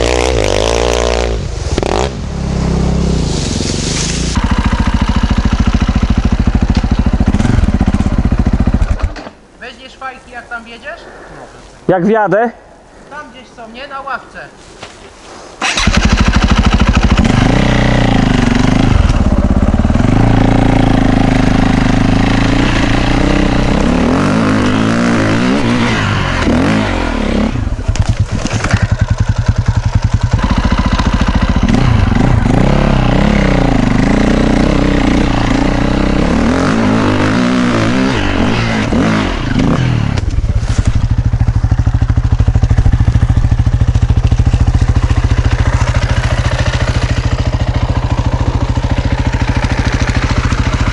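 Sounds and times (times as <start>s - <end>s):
dirt bike engine revving: 0.0s - 9.2s, 15.6s - 50.9s.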